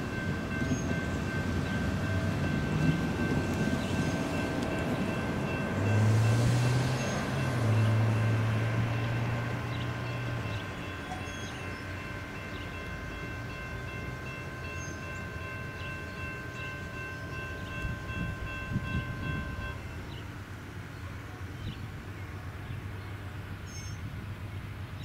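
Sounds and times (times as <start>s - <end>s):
train horn chord: 0.0s - 20.2s
diesel locomotive rumble: 0.0s - 25.0s.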